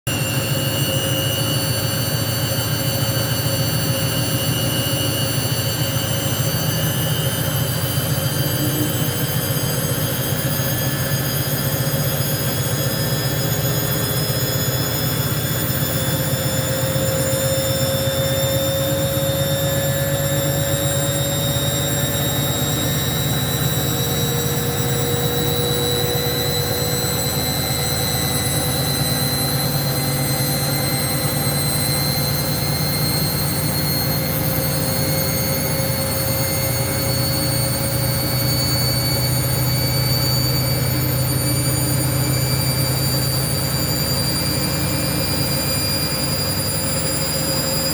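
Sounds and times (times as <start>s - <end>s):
washing machine motor whine: 0.1s - 47.9s.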